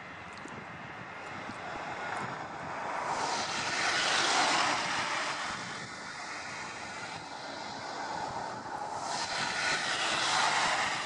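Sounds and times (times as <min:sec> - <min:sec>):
turboprop plane taking off: 0:00.0 - 0:11.0.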